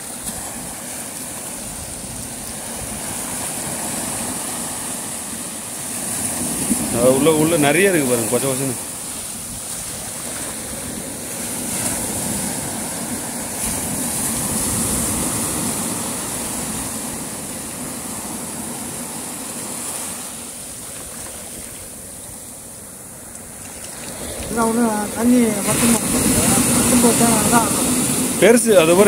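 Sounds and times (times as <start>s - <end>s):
sea surf washing in: 0.0s - 29.0s.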